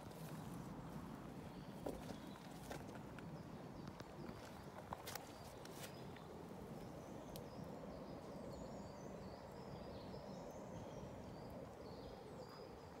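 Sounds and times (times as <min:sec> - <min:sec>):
small birds singing faintly: 0:00.0 - 0:13.0.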